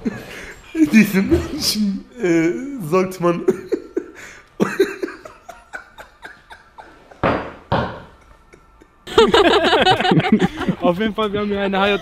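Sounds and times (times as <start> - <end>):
man laughing: 0.8 - 11.0.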